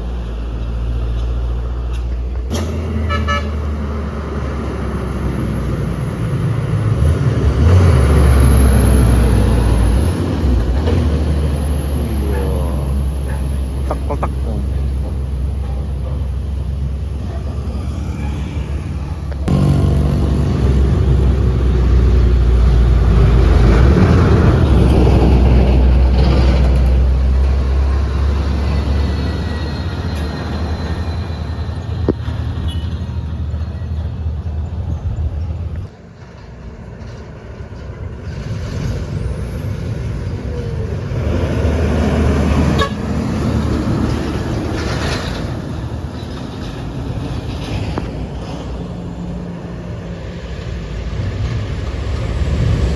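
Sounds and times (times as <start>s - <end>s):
diesel truck engines labouring: 0.0s - 52.9s.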